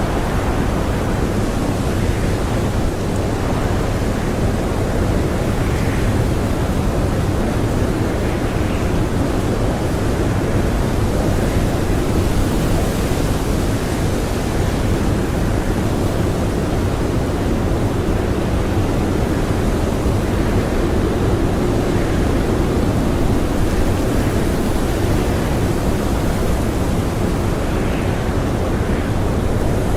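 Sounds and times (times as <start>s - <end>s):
strong blizzard wind: 0.0s - 29.9s.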